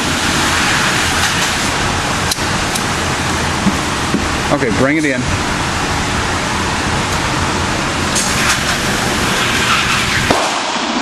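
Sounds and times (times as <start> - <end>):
motorized target carrier rumbling: 0.0 - 11.0.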